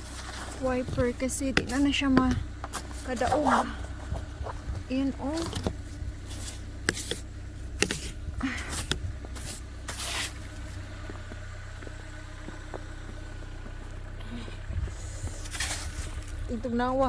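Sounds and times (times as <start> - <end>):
car cabin rumble while driving: 0.0 - 17.0.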